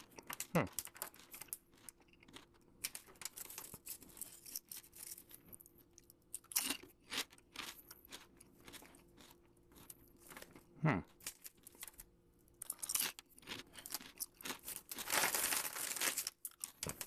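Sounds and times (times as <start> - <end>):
potato chip crunching: 0.0 - 10.6, 11.2 - 17.0.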